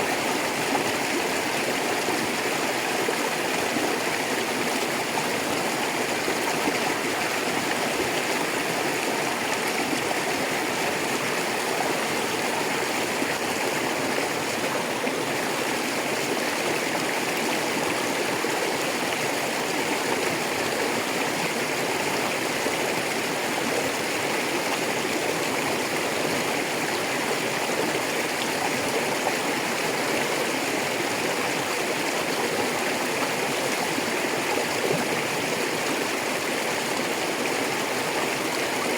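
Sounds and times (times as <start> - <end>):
water rushing over stones: 0.0 - 38.9.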